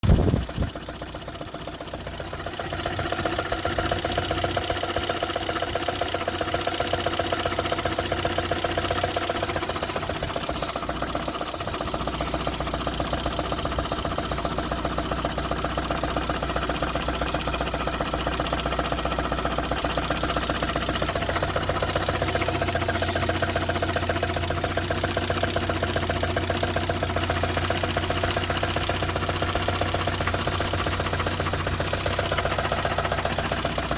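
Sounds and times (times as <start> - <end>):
car engine idling with knock: 0.0 - 33.9.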